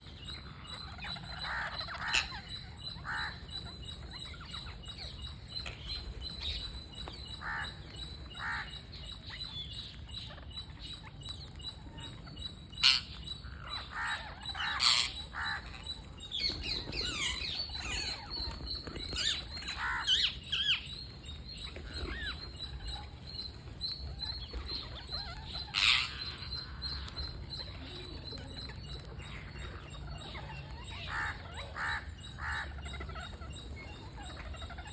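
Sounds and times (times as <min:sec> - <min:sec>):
parrots squawking: 0:00.5 - 0:06.5, 0:07.4 - 0:08.9, 0:12.8 - 0:27.9, 0:28.7 - 0:34.9.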